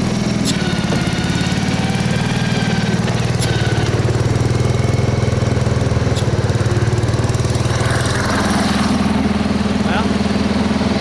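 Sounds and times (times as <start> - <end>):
lawn tractor engine idling: 0.0 - 11.0.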